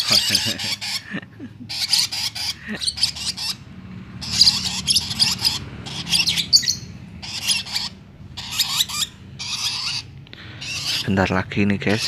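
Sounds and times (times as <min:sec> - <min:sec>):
lovebirds chattering: 0:00.0 - 0:12.0.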